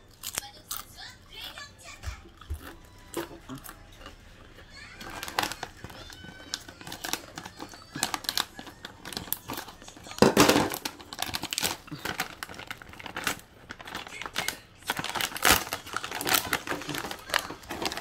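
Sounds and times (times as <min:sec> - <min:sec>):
plastic snack bags crinkling: 0:02.4 - 0:18.0.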